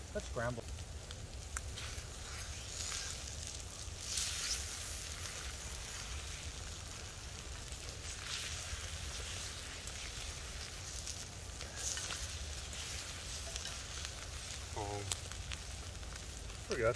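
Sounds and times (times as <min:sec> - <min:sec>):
eggs and bacon sizzling: 0:00.0 - 0:16.9.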